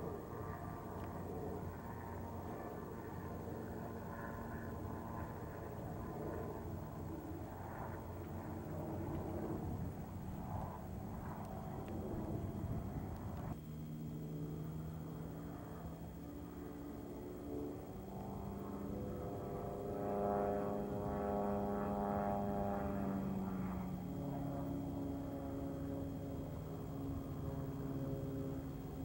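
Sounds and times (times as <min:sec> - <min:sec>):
propeller airplane engine: 0:00.0 - 0:29.0.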